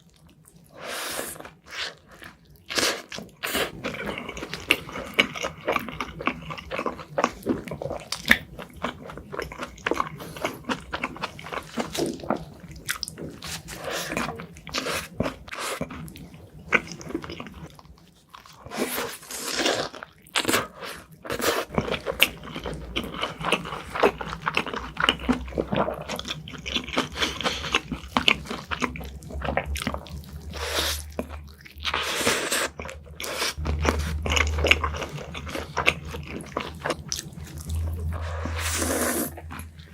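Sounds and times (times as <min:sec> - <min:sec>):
low steady hum: 0:03.4 - 0:18.1, 0:21.7 - 0:39.9.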